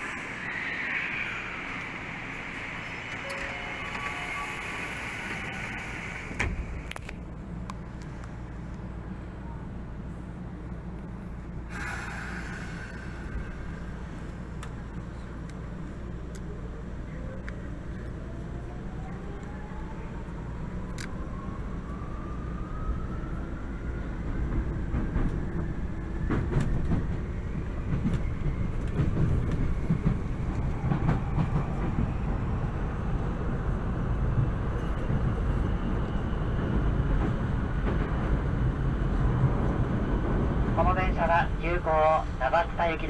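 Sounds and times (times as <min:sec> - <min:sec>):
wheels rumbling on rails: 0:00.0 - 0:43.0.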